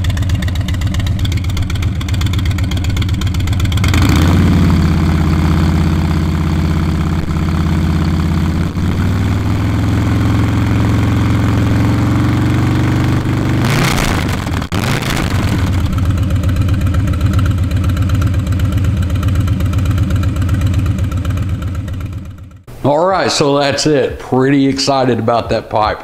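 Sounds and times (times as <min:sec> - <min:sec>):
motorcycle engine running: 0:00.0 - 0:22.7.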